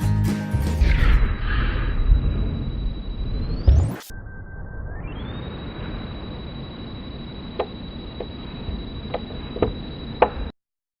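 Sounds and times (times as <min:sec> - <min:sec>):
thin high steady tone: 0:01.1 - 0:10.5.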